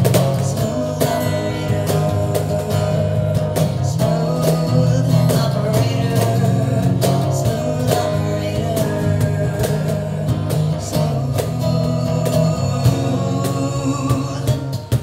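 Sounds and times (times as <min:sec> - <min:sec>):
cajon hits: 0:00.0 - 0:15.0
strummed acoustic guitar: 0:00.0 - 0:15.0
woman singing: 0:00.4 - 0:14.8.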